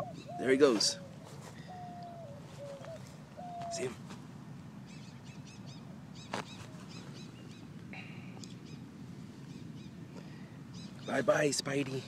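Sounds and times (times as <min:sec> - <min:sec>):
small birds chirping: 0:00.0 - 0:04.2, 0:04.8 - 0:12.0
steady low background noise: 0:00.0 - 0:12.0.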